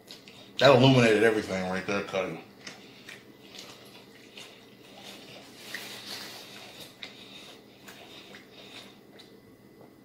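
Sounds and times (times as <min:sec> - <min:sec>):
chewing fries: 0:00.0 - 0:00.7, 0:02.5 - 0:10.0.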